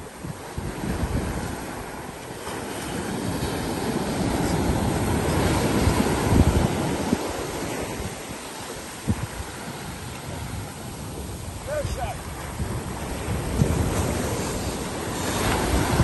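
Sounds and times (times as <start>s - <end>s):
ocean surf breaking on beach: 0.0s - 16.0s
wind gusting on microphone: 0.0s - 16.0s.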